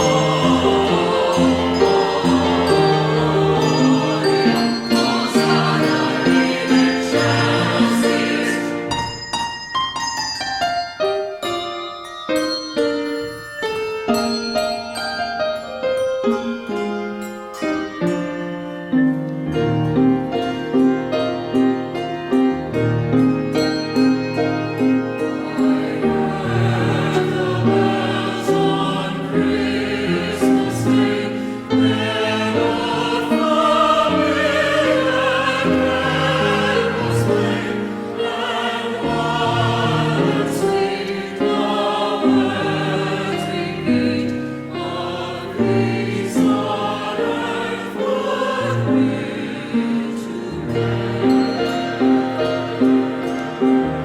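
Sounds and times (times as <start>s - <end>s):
church choir singing: 0.0s - 9.5s, 14.9s - 54.0s
instrumental accompaniment: 0.0s - 54.0s.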